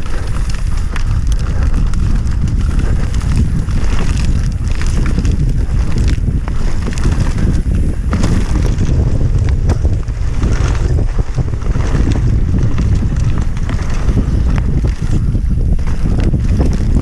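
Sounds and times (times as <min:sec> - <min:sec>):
bike knocks and clicks: 0:00.0 - 0:17.0
low rumble: 0:00.0 - 0:17.0
wind buffeting microphone: 0:00.0 - 0:17.0.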